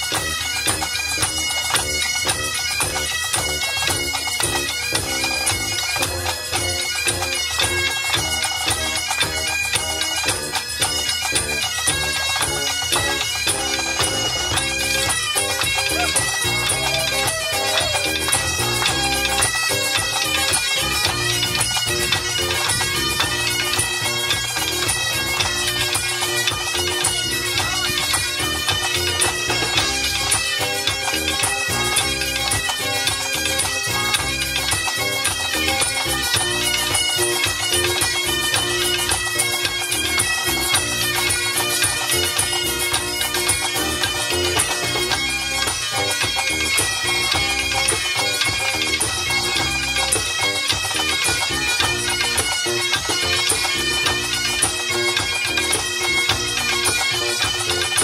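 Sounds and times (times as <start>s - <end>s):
bagpipe band playing: 0.0s - 58.0s
drums: 0.0s - 58.0s.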